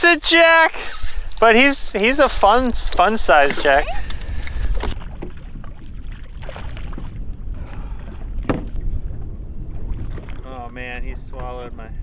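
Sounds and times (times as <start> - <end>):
wind and water around boat: 0.0 - 12.0.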